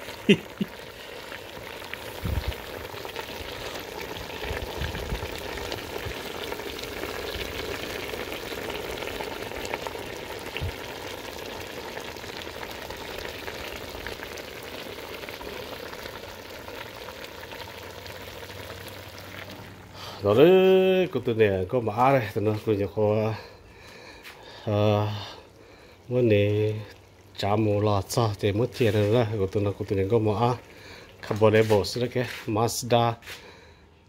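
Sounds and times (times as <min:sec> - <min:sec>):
stew bubbling and sizzling: 0:00.0 - 0:33.8.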